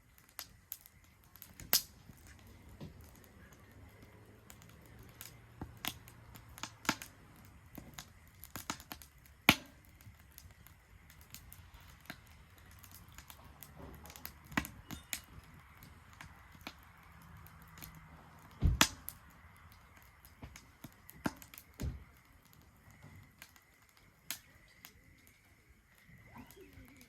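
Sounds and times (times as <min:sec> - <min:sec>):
faint steady hiss: 0:00.0 - 0:27.0
wood fire crackling and popping: 0:00.0 - 0:27.0.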